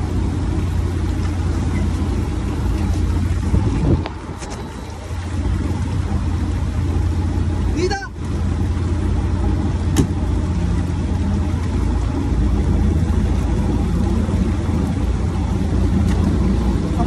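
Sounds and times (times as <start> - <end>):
boat engine droning: 0.0 - 17.0
rain and water hiss: 0.0 - 17.0.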